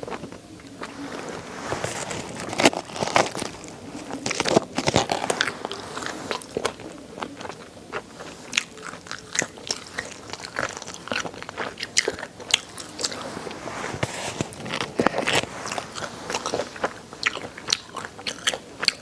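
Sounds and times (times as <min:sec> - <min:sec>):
bones crunching while chewing: 0:00.0 - 0:19.0.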